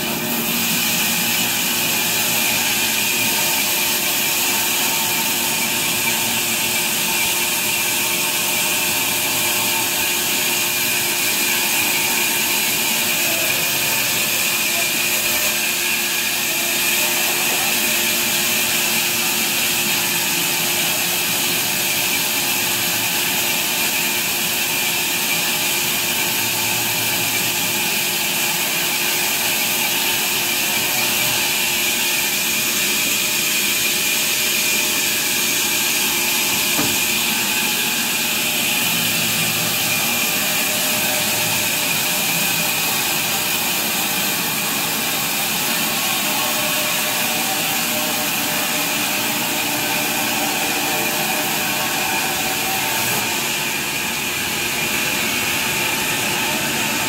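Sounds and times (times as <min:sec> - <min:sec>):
band saw cutting timber: 0:00.0 - 0:57.0.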